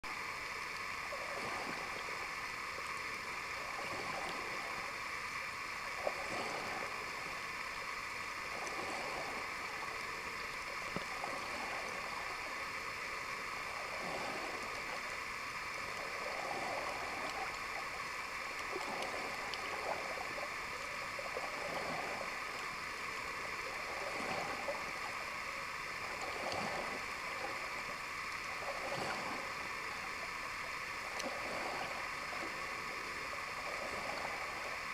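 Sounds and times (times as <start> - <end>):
rushing swells of water: 0.0 - 34.9
underwater hiss: 0.1 - 34.9.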